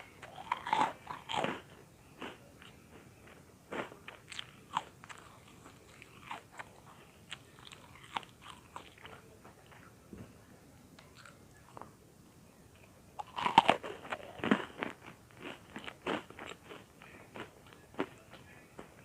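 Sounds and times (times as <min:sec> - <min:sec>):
crunchy chewing: 0:00.0 - 0:09.9, 0:11.0 - 0:11.9, 0:13.2 - 0:19.0.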